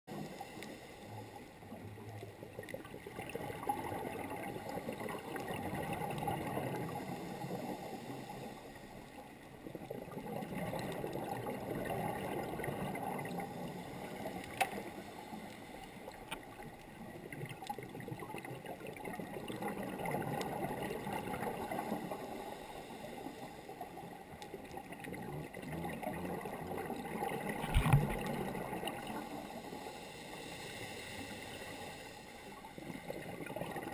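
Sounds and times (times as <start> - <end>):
underwater exhaust bubbles gurgling: 0.1 - 33.9.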